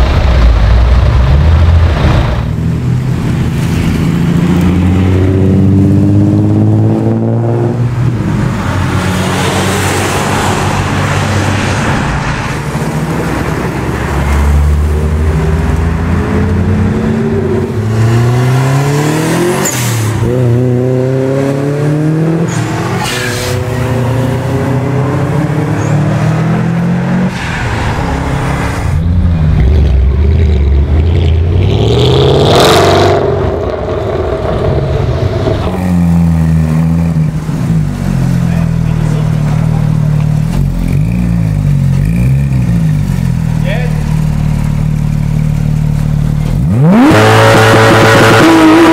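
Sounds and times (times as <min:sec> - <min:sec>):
cars accelerating hard: 0:01.6 - 0:48.9.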